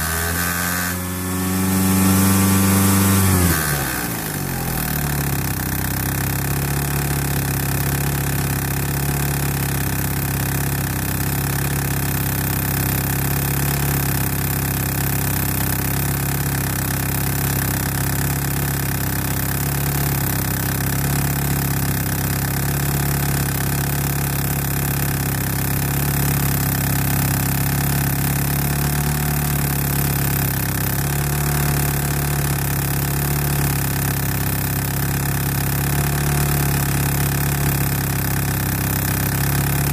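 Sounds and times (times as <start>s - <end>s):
car engine idling: 3.6s - 39.9s.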